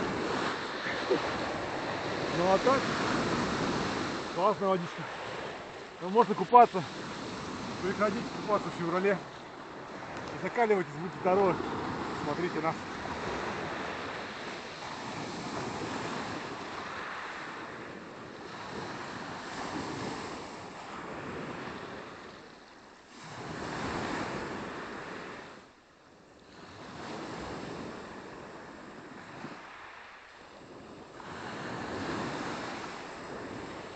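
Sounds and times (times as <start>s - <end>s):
small waves washing onto shore: 0.0s - 33.9s.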